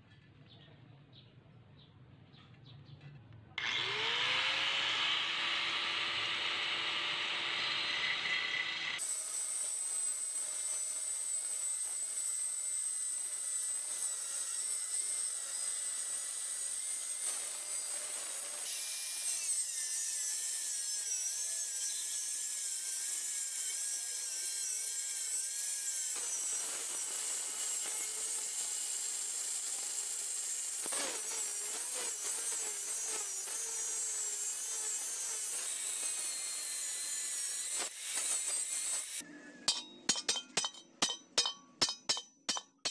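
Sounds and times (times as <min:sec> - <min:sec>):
angle grinder cutting steel: 0:03.6 - 0:42.9.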